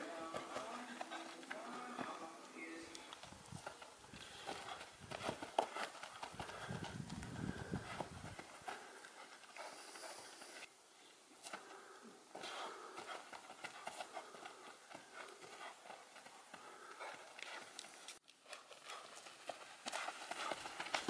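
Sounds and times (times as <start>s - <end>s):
running footsteps on grass: 0.0s - 10.7s, 11.5s - 21.0s.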